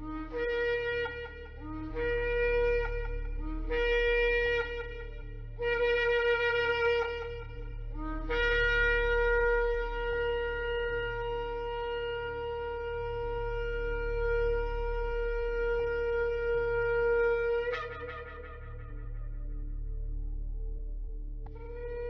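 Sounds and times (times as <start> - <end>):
shofar blast: 0.0 - 19.3.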